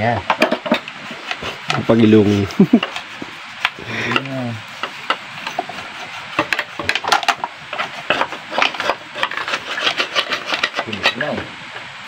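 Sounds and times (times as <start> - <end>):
tool scraping metal: 0.3 - 11.8
brush scrubbing metal fins: 0.4 - 11.8.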